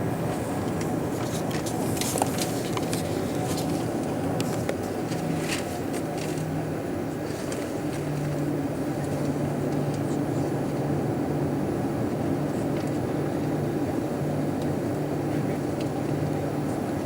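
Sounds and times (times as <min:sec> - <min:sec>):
air conditioning hum: 0:00.0 - 0:17.0
airliner cabin engine hum: 0:00.0 - 0:17.0.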